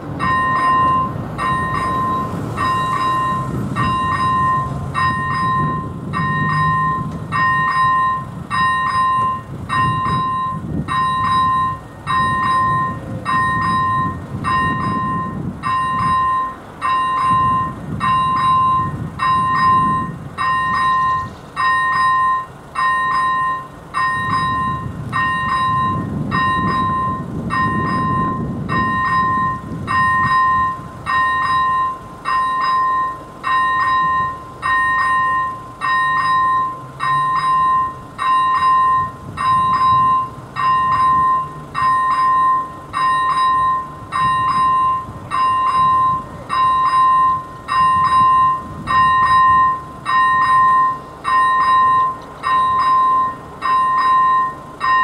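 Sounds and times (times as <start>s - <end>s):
electronic warning bell ringing: 0.2s - 55.0s.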